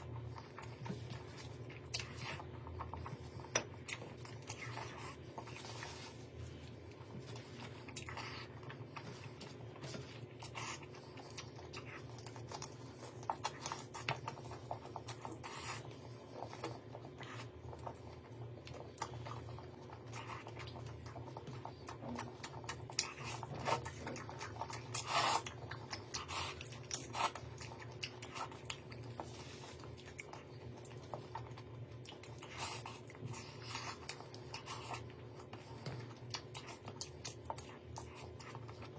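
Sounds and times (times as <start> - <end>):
chewing: 0.0 - 38.9
steady low hum: 0.0 - 38.9.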